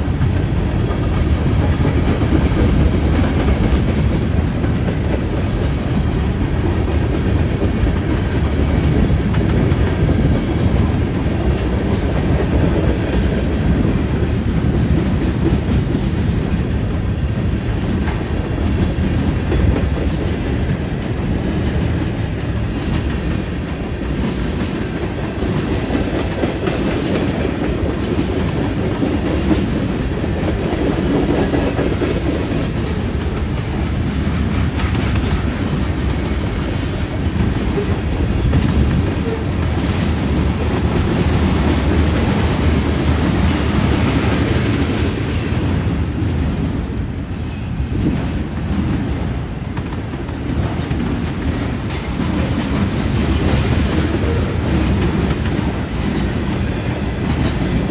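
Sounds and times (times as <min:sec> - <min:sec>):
wheels clacking over rail joints: 0:00.0 - 0:46.7
freight train rumbling past: 0:00.0 - 0:57.9.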